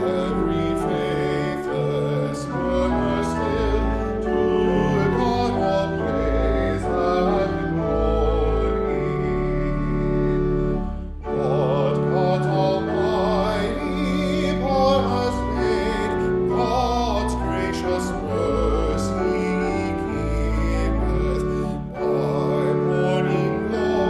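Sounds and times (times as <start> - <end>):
person singing with vibrato: 0.0 - 24.0
sustained keyboard accompaniment: 0.0 - 24.0.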